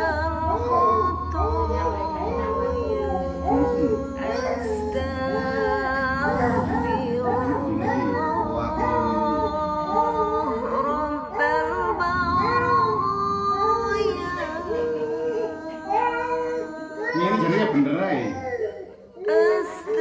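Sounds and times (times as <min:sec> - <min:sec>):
high voice singing: 0:00.0 - 0:17.9.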